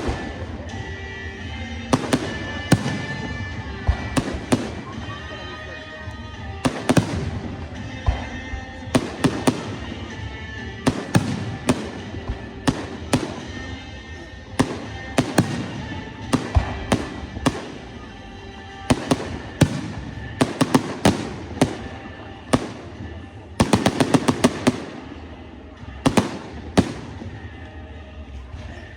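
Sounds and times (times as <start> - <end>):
fireworks bursting with sharp bangs: 0.0 - 27.8
music playing: 0.0 - 28.9.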